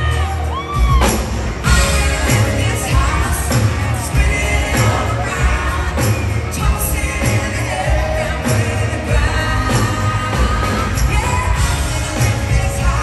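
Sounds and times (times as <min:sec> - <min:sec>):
keyboard: 0:00.0 - 0:13.0.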